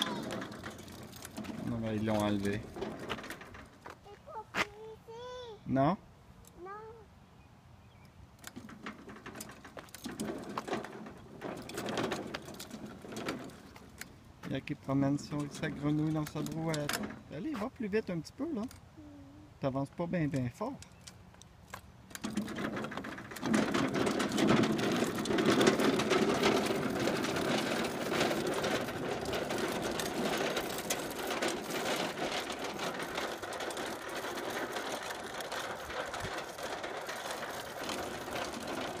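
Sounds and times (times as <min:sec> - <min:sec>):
toy wagon wheels rattling on asphalt: 0:00.0 - 0:05.5, 0:08.1 - 0:39.0.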